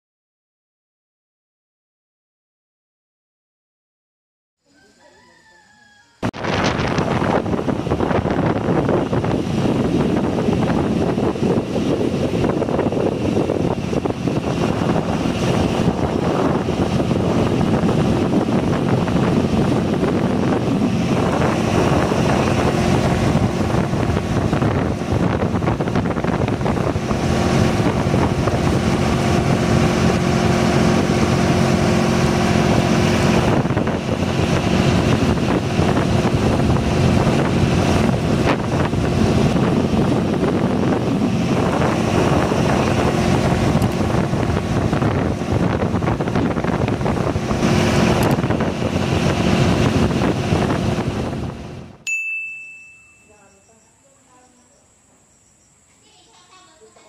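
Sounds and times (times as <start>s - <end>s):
boat engine running: 6.2s - 52.0s
wind buffeting microphone: 6.2s - 52.0s.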